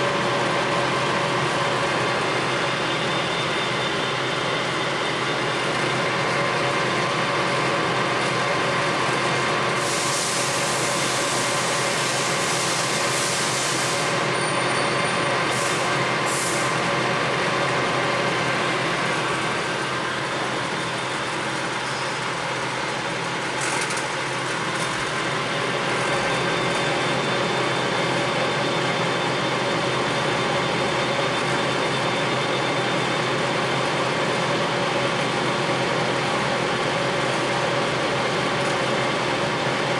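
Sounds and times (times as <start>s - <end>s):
lathe gear whine and hum: 0.0s - 39.9s.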